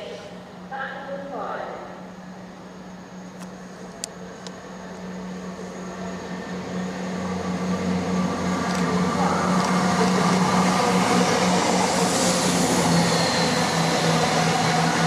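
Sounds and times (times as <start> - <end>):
steady low hum: 0.0 - 15.0
train approaching: 0.0 - 15.0.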